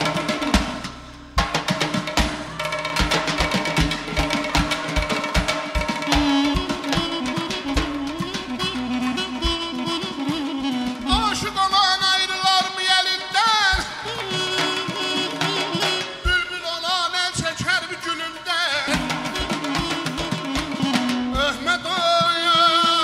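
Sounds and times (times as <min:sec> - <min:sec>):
drum beats: 0:00.0 - 0:23.0.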